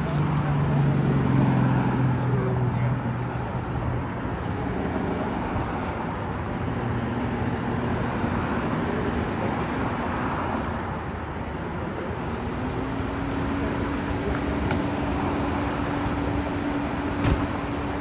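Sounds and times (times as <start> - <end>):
low vehicle engine hum: 0.0 - 18.0
street traffic noise: 0.0 - 18.0.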